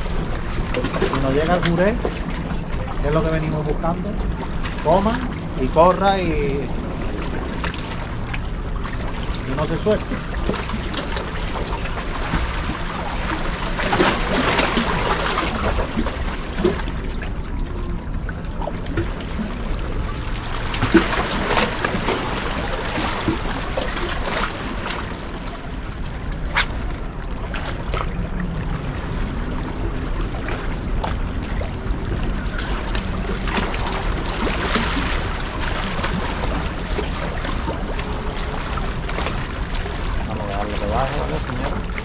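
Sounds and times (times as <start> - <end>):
low rumble: 0.0 - 42.0
sea water splashing on rocks: 0.0 - 42.0.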